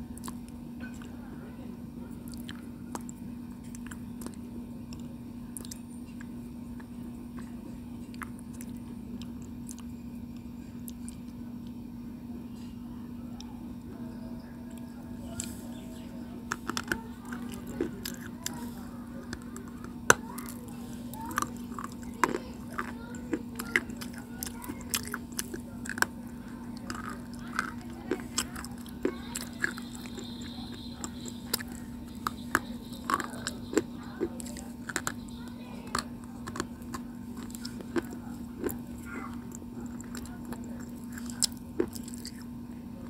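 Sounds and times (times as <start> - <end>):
low hum: 0.0 - 43.0
chewing stone crunches: 2.2 - 11.8, 14.7 - 42.7.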